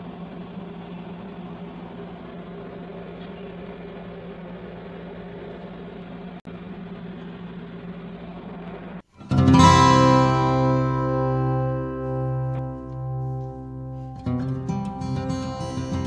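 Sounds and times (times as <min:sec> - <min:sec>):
low-pitched hum: 0:00.0 - 0:16.0.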